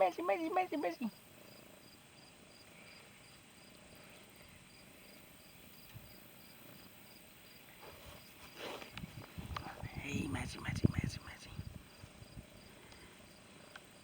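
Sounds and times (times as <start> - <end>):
cricket chirping: 0.0 - 9.0, 10.6 - 14.0.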